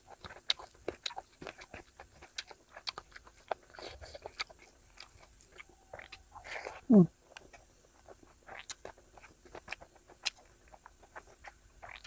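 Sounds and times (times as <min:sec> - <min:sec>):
chewing with wet clicks: 0:00.0 - 0:12.0
fingers squishing food: 0:00.0 - 0:12.0.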